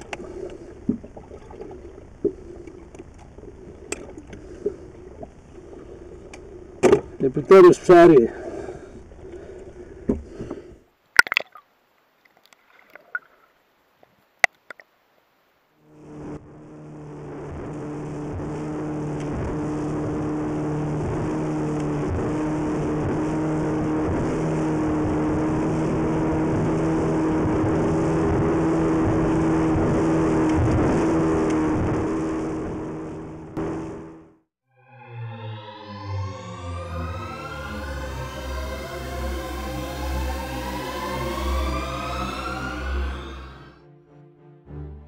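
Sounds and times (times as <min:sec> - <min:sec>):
outboard engine running: 0:00.0 - 0:10.7, 0:15.8 - 0:34.5, 0:35.6 - 0:43.8
wind: 0:00.0 - 0:43.6.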